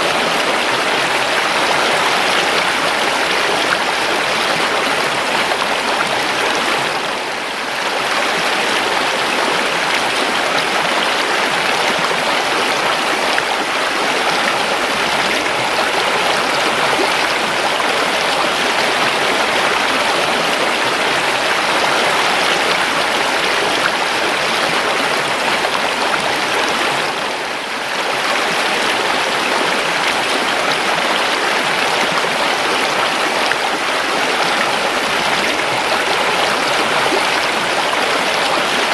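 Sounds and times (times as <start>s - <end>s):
river rushing and babbling: 0.0s - 38.9s.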